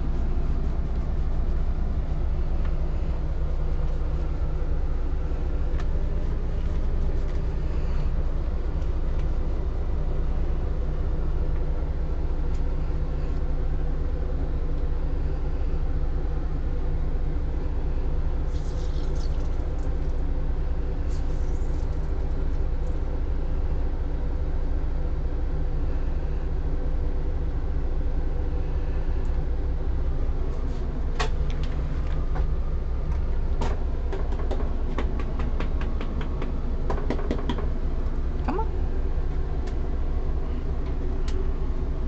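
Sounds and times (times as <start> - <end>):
low machine hum: 0.0 - 42.0.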